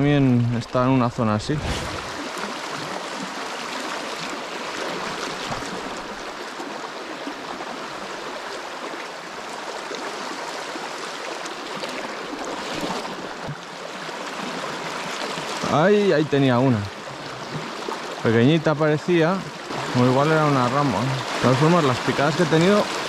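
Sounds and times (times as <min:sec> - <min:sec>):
river water rushing over stones: 0:00.0 - 0:23.0.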